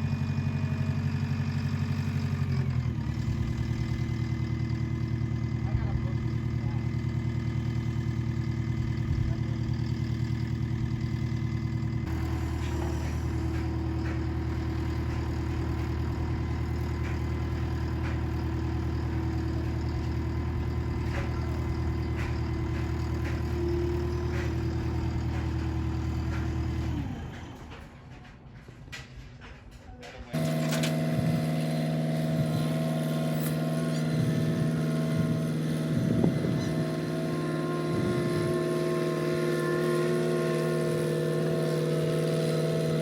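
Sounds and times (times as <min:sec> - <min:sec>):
engine idling: 0:00.0 - 0:43.0.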